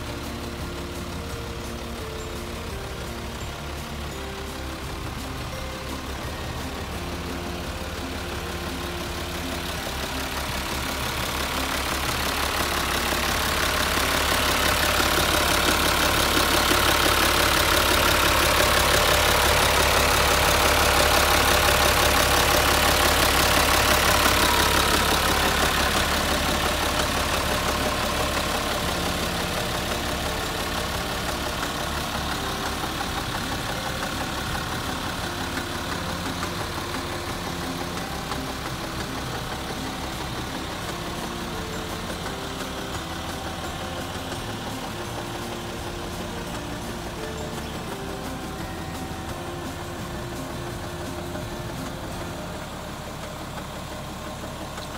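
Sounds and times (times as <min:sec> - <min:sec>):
truck diesel engine idling: 0:00.0 - 0:54.9.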